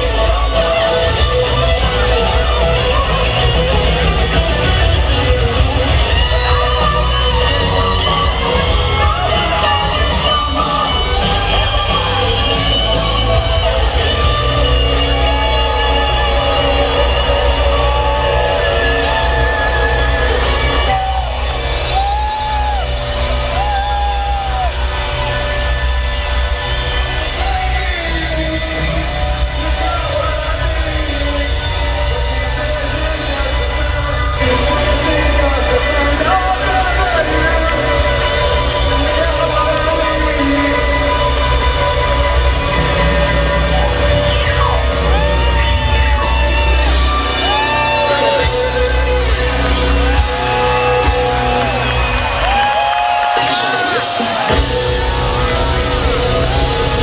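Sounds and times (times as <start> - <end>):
audience shouting: 0.0 - 57.0
live rock band playing: 0.0 - 57.0.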